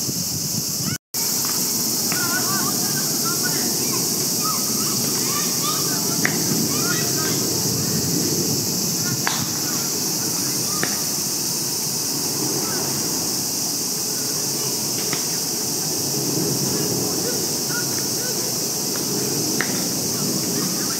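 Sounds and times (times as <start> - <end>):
cicadas chorus: 0.0 - 20.9.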